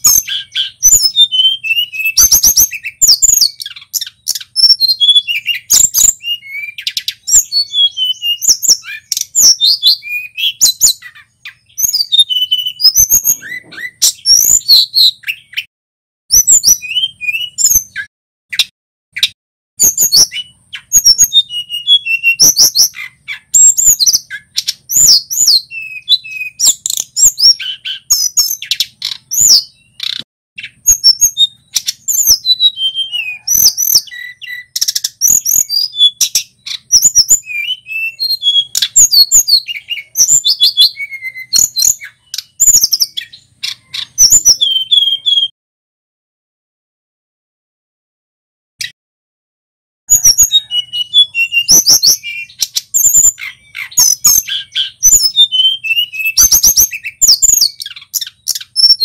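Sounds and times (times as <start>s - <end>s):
bird singing whistled notes: 0.0s - 15.7s, 16.3s - 45.5s, 50.1s - 59.0s
sharp bird chips: 0.0s - 15.7s, 16.3s - 45.5s, 50.1s - 59.0s.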